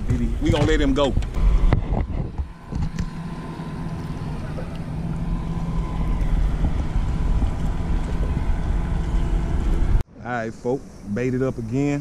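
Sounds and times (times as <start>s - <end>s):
boat motor humming: 0.0s - 10.0s
wind rumbling on microphone: 0.0s - 10.0s.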